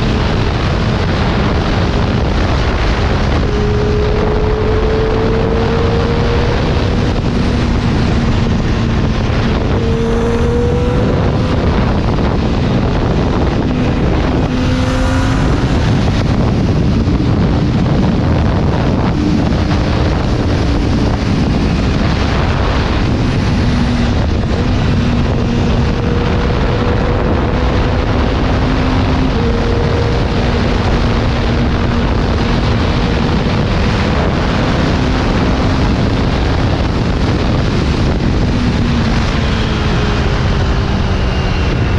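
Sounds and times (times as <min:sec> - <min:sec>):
motorcycle engine rumble: 0:00.0 - 0:41.9.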